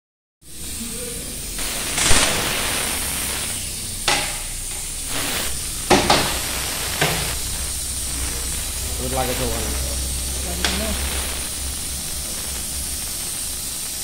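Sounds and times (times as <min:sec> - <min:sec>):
steady hiss: 0:00.4 - 0:14.0.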